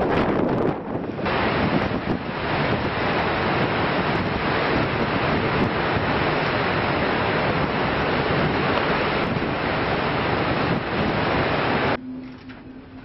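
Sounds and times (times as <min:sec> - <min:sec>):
sea rushing: 0:00.0 - 0:12.0
wind blowing over microphone: 0:00.0 - 0:12.0.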